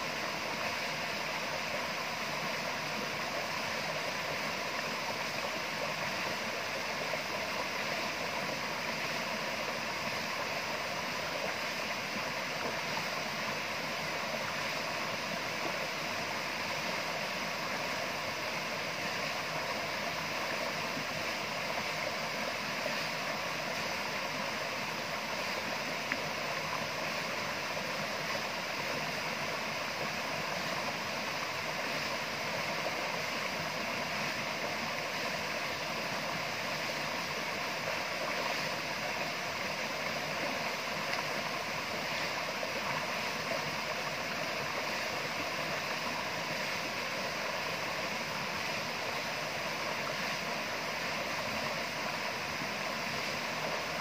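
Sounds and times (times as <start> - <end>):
stream rushing and splashing: 0.0 - 54.0.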